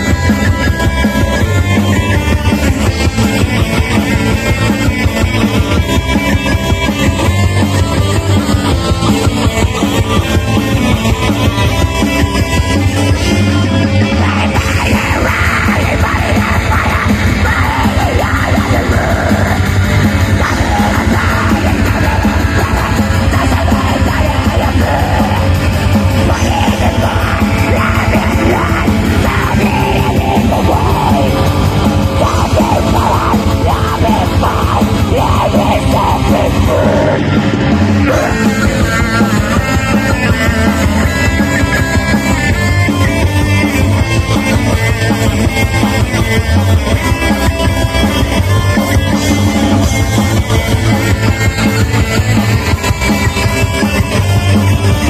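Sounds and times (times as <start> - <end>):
metal band playing: 0.0 - 55.0.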